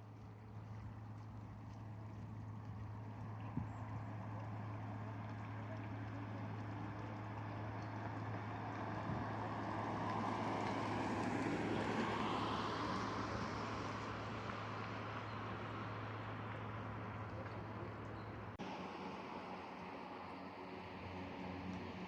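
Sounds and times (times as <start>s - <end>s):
passing engine: 0.0s - 22.0s.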